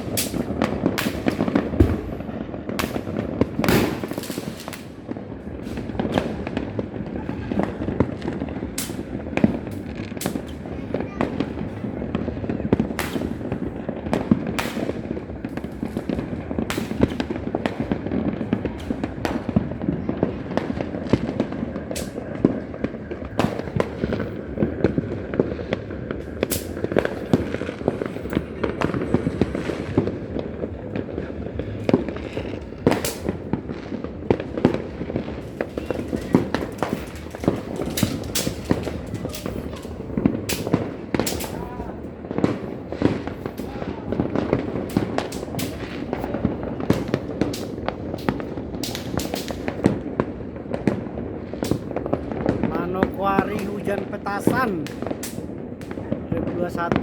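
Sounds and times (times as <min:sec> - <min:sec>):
distant firecrackers crackling: 0:00.0 - 0:57.0
sharp firework bangs: 0:00.0 - 0:57.0.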